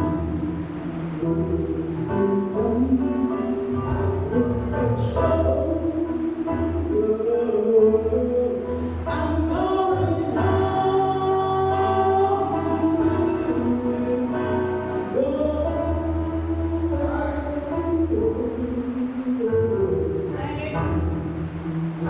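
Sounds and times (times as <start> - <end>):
musical accompaniment: 0.0 - 22.0.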